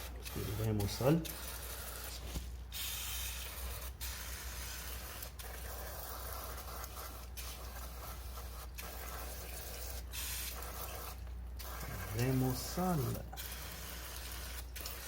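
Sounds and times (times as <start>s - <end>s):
aerosol spray hissing: 0.0s - 15.0s.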